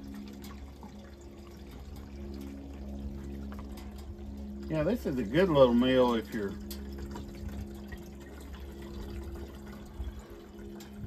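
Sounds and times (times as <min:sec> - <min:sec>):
steady low hum: 0:00.0 - 0:11.0
water pouring into tank: 0:00.0 - 0:11.0.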